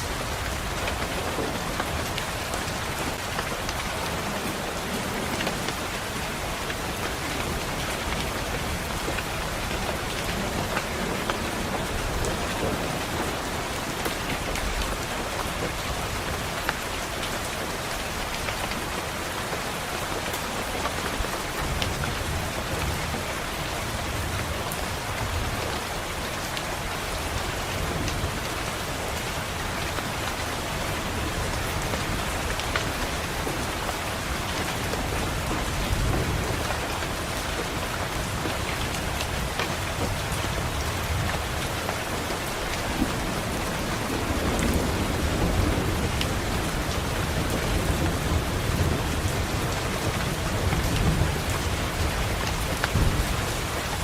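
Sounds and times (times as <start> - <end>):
rain beating on a window: 0.0 - 54.0.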